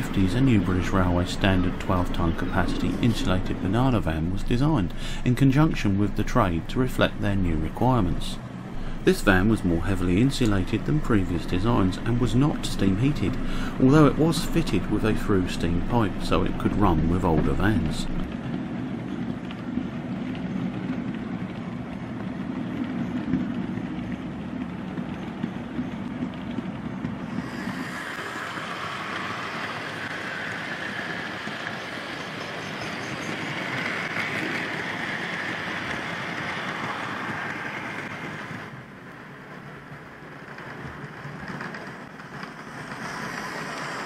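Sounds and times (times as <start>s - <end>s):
train rolling on rails: 0.0s - 44.0s.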